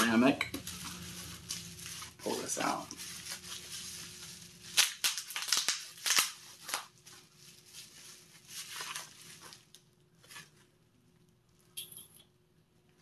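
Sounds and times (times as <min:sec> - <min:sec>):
bubble wrap crackling: 0:00.0 - 0:10.7.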